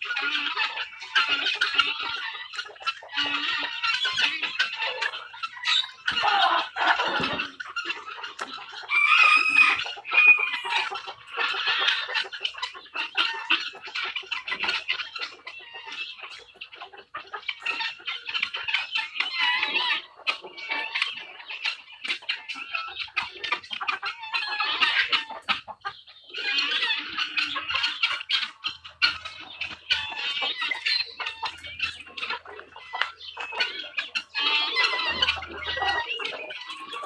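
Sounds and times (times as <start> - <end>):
poultry clucking and cackling: 0.0 - 37.0.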